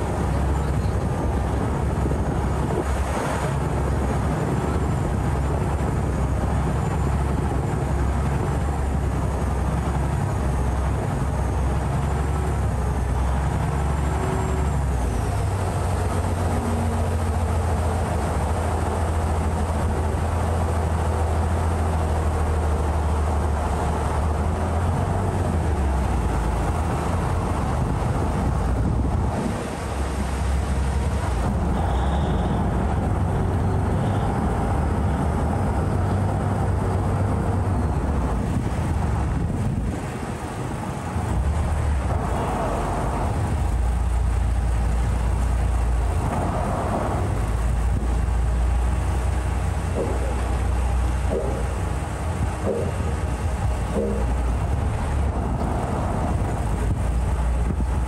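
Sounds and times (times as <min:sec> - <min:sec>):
boat engine running loudly: 0:00.0 - 0:58.0
rush of water and wind: 0:00.0 - 0:58.0.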